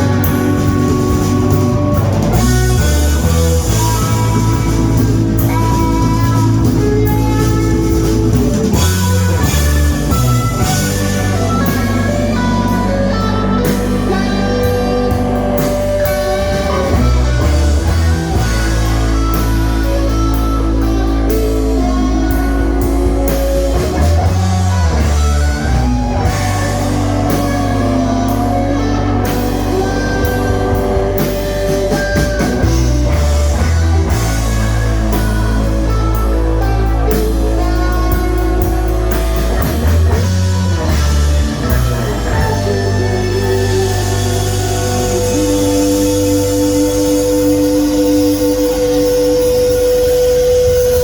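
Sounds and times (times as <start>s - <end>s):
drum kit: 0.0s - 51.0s
electric guitar lines: 0.0s - 51.0s
heavy bass line: 0.0s - 51.0s.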